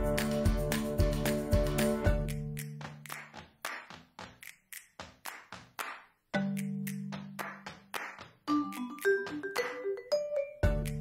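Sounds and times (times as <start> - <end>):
percussion beat: 0.0 - 11.0.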